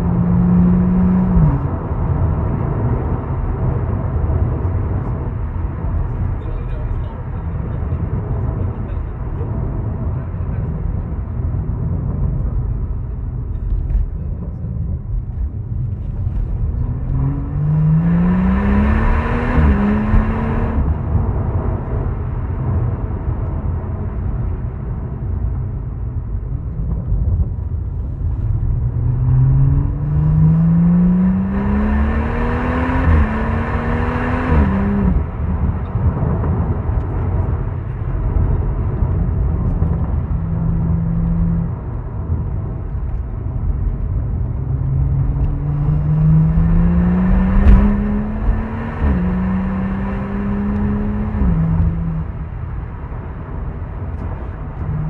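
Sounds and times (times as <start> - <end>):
car engine accelerating hard: 0.0 - 25.6, 26.7 - 55.0
wind and road noise rumble: 0.0 - 55.0.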